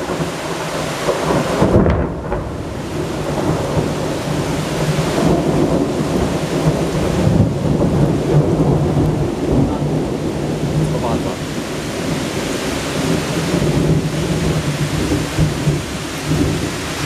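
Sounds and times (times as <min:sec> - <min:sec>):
steady rain: 0:00.0 - 0:17.0
thunder crack: 0:00.0 - 0:17.0
thunder rumbling: 0:00.0 - 0:17.0.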